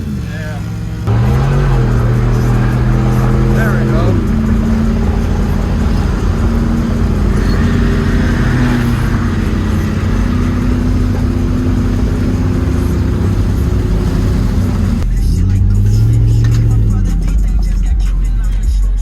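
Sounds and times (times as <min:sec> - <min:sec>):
car engine running loudly: 0:00.0 - 0:19.0.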